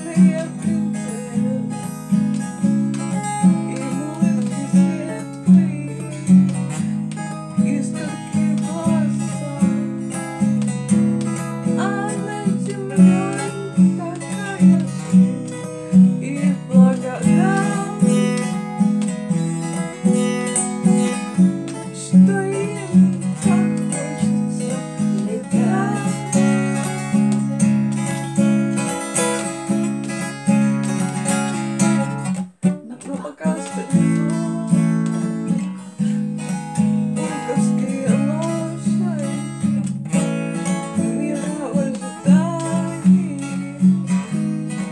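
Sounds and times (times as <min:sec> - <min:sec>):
acoustic guitar strumming chords: 0:00.0 - 0:44.9.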